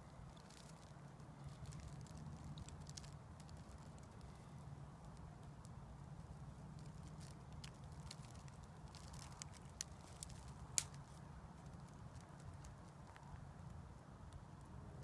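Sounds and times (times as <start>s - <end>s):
faint clicks and crackles: 0.0s - 14.8s
low steady hum: 0.0s - 15.0s.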